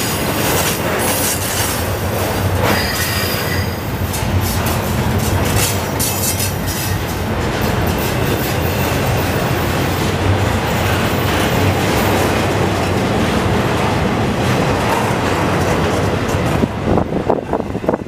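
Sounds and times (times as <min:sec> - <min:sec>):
freight train wheels on track: 0:00.0 - 0:18.0.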